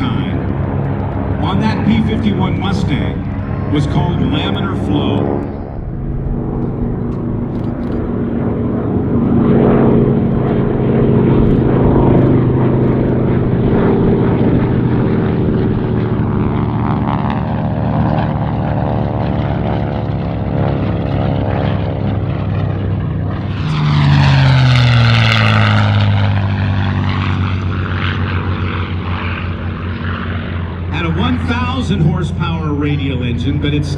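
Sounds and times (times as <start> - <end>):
propeller plane engine drone: 0.0 - 33.9.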